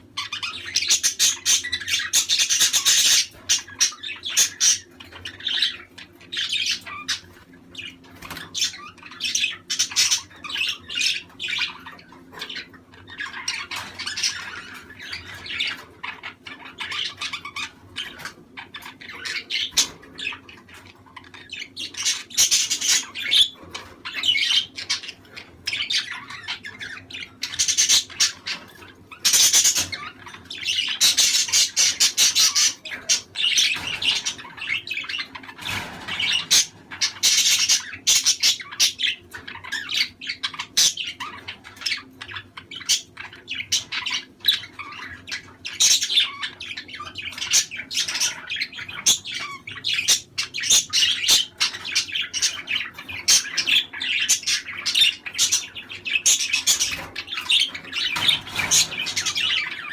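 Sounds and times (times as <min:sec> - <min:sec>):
budgies chirping and squawking: 0:00.0 - 0:59.9.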